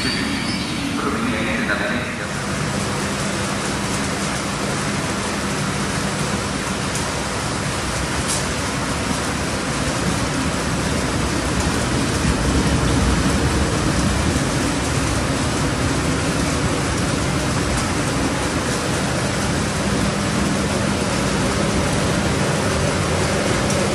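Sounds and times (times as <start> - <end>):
electric train rumbling: 0.0 - 23.9
rain hissing: 0.0 - 23.9.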